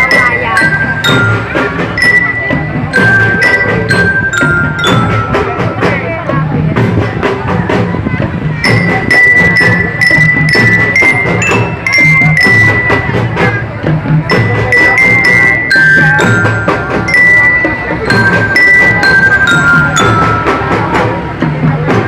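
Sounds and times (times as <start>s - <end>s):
loud music with drum beat: 0.0s - 22.0s.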